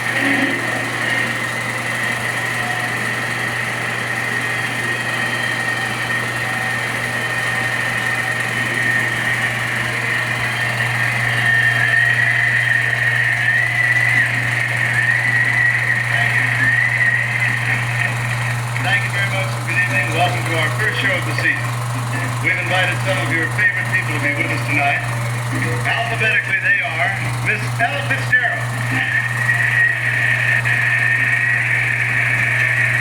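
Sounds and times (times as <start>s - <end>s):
film projector running: 0.0s - 33.0s
steady high tone: 0.0s - 33.0s.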